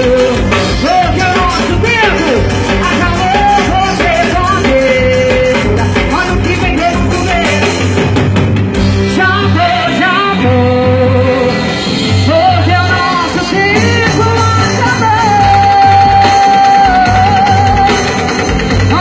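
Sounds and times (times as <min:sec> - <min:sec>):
person singing: 0:00.0 - 0:08.1, 0:08.9 - 0:19.0
live band music: 0:00.0 - 0:19.0
pulsing bass beat: 0:00.0 - 0:19.0.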